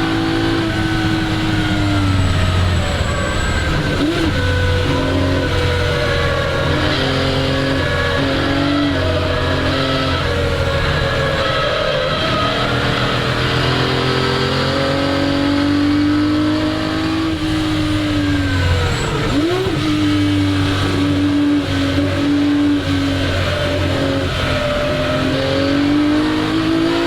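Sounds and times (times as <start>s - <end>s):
racing car engine running hard: 0.0s - 27.0s.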